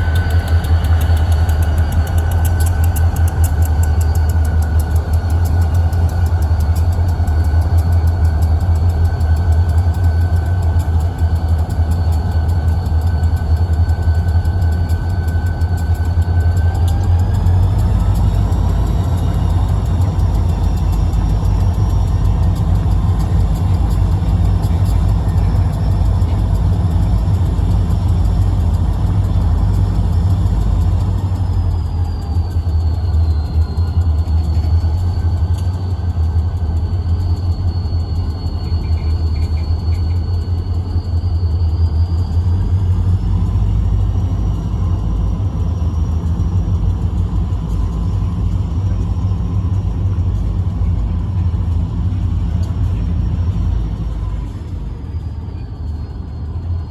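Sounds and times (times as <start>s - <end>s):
diesel locomotive rumble: 0.0s - 56.9s
faint high whine: 0.0s - 56.9s.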